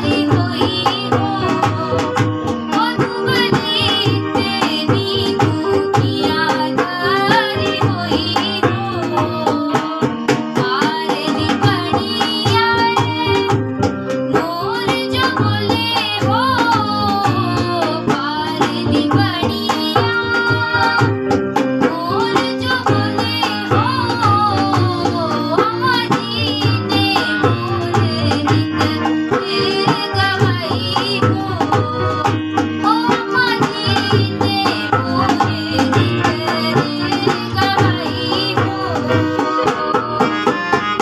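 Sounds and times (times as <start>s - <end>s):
girl singing folk song: 0.0s - 40.8s
instrumental accompaniment: 0.0s - 41.0s
steady drum beat: 0.0s - 41.0s.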